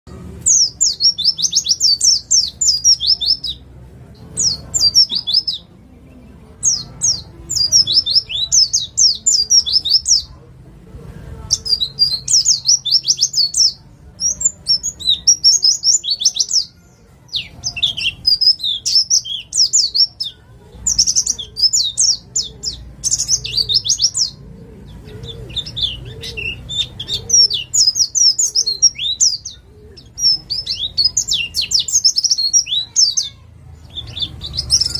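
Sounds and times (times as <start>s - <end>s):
bird singing high chirps: 0.4s - 10.3s, 11.5s - 34.9s.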